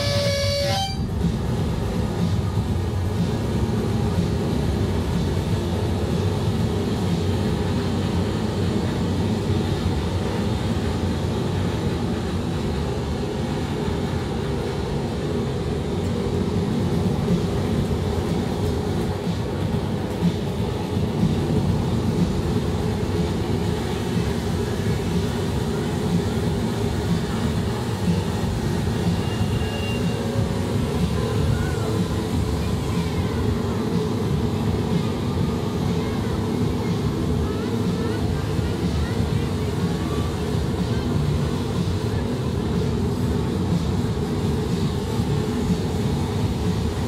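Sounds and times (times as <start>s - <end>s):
harsh noise music rumble: 0.0s - 47.0s.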